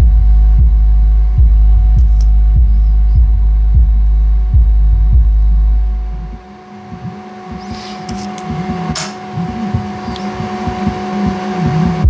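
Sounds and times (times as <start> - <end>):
repeating higher bass notes: 0.0 - 12.0
subwoofer playing hip-hop: 0.0 - 12.0.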